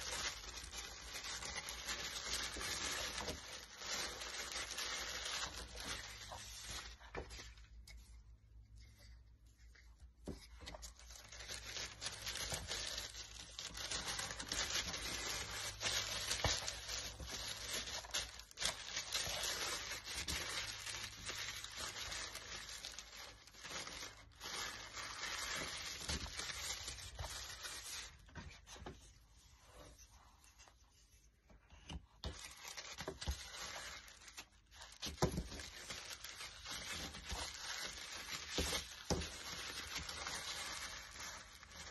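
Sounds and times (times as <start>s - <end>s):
tissue paper rustling: 0.0s - 41.9s.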